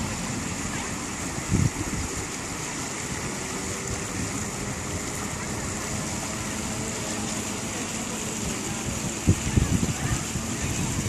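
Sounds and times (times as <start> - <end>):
wind buffeting microphone: 0.0 - 2.4, 3.2 - 11.0.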